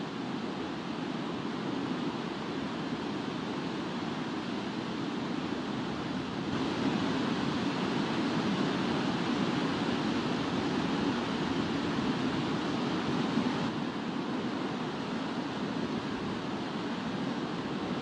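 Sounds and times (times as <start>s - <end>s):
water rushing from spillway: 0.0s - 18.0s.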